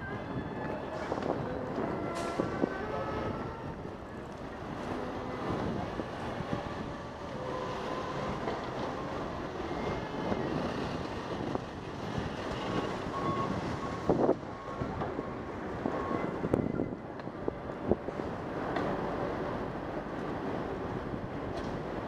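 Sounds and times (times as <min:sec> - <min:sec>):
wind on microphone: 0:00.0 - 0:19.6
city traffic: 0:00.0 - 0:22.0
tyres on wet pavement: 0:00.5 - 0:22.0.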